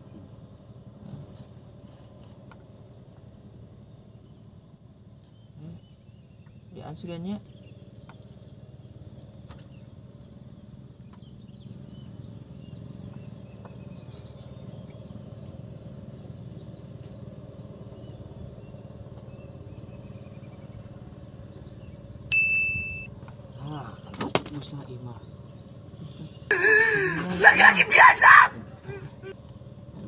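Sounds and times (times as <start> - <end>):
low background rumble: 0.0 - 30.0
faint bird chirps: 4.1 - 30.0.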